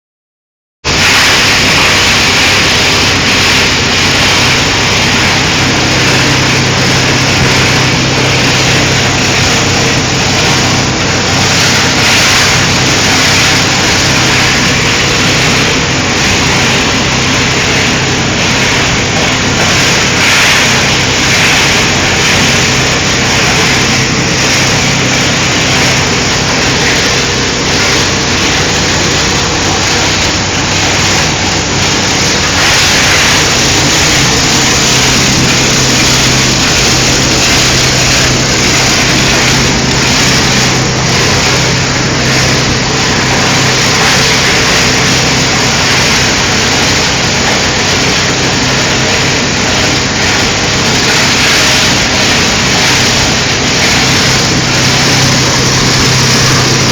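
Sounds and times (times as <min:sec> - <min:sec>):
low motor hum: 0:00.9 - 0:56.9
waste shredder running: 0:00.9 - 0:56.9.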